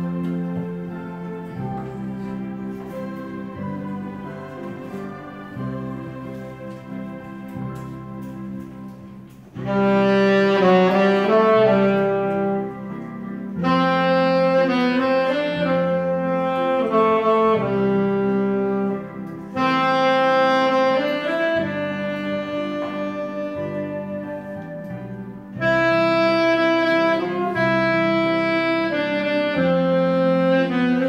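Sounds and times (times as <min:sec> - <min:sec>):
alto saxophone melody: 0:00.0 - 0:31.0
soft musical accompaniment: 0:00.0 - 0:31.0.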